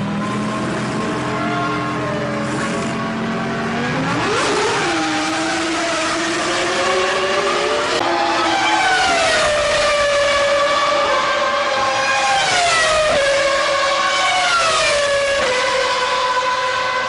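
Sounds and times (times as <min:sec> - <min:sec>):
racing car engines whining: 0:00.0 - 0:17.0.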